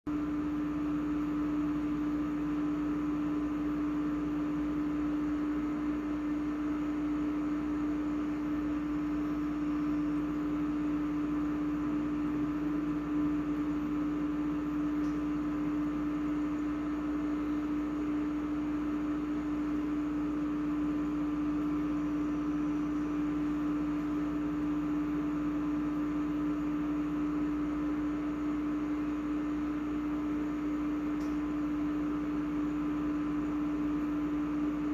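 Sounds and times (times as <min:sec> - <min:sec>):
steady machine hum: 0:00.1 - 0:34.9.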